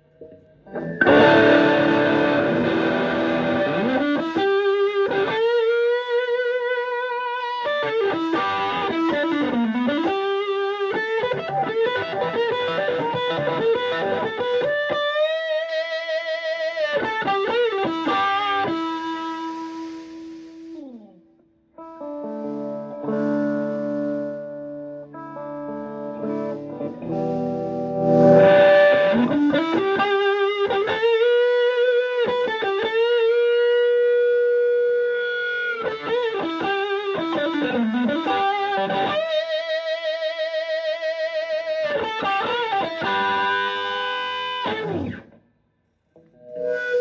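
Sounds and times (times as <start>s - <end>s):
overdriven electric guitar: 0.0s - 45.5s, 46.2s - 47.0s.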